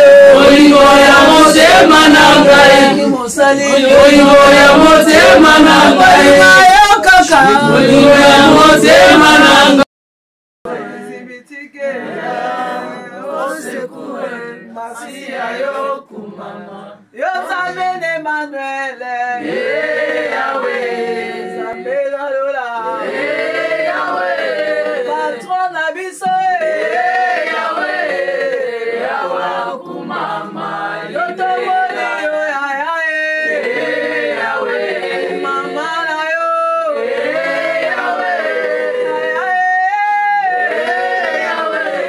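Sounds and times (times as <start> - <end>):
women singing a cappella: 0.0 - 9.9, 10.7 - 42.0.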